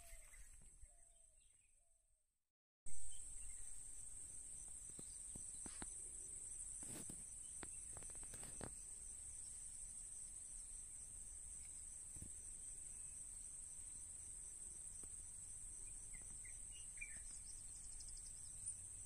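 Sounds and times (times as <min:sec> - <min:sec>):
insect chorus: 0:02.9 - 0:19.0.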